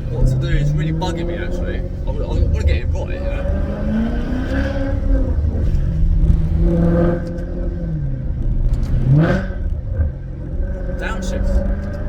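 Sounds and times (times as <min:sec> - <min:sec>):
car engine and exhaust revving: 0:00.0 - 0:12.0.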